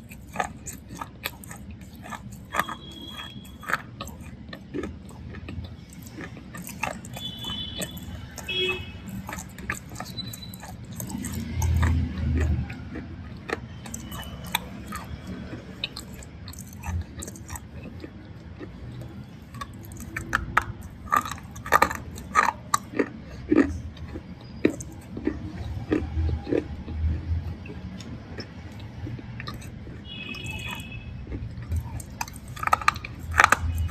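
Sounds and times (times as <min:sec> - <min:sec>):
crunchy chewing: 0:00.0 - 0:33.9.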